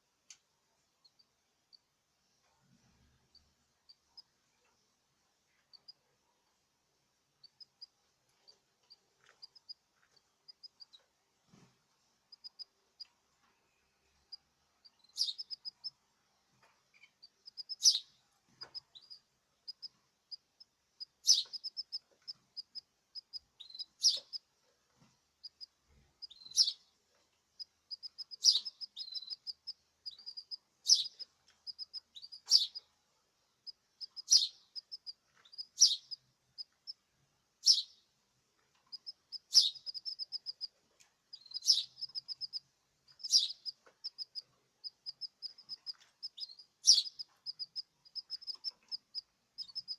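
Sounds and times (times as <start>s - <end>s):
songbird chirping: 7.3s - 49.9s.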